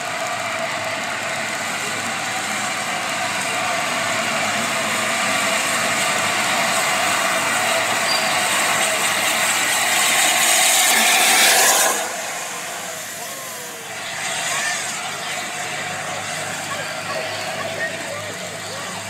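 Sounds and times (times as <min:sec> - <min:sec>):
steam locomotive hissing steam: 0:00.0 - 0:19.0.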